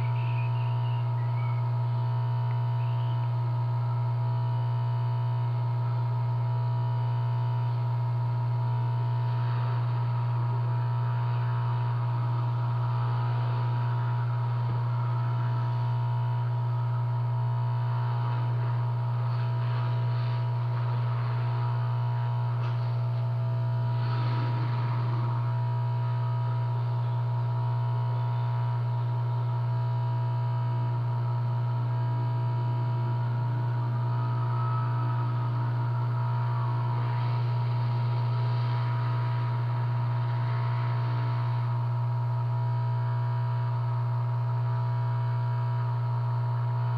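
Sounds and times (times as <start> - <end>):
steady electrical hum: 0.0 - 46.9.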